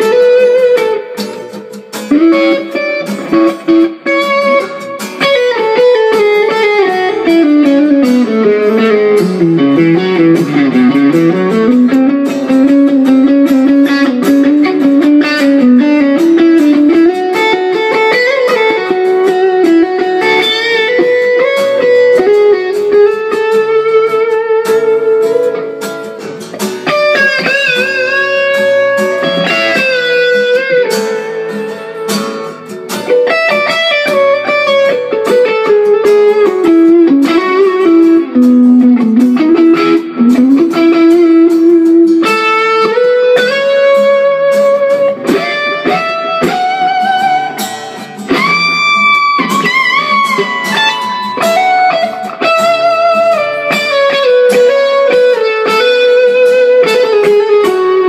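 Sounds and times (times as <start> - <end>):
guitar melody: 0.0 - 58.0.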